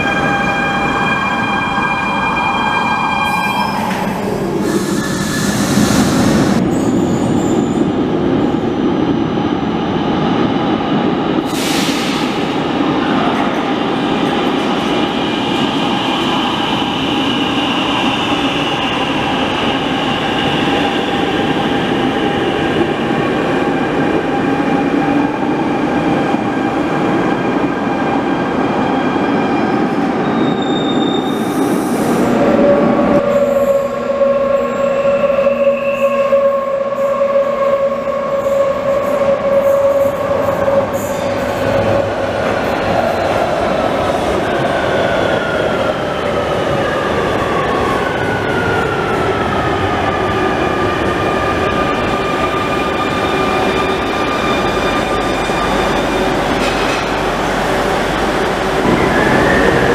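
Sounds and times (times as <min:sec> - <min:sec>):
train wheels rumbling on rail: 0:03.7 - 0:59.9.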